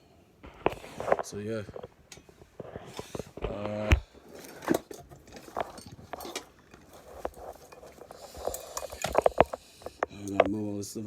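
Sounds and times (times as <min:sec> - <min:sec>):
objects clattering on work surface: 0:00.5 - 0:10.6.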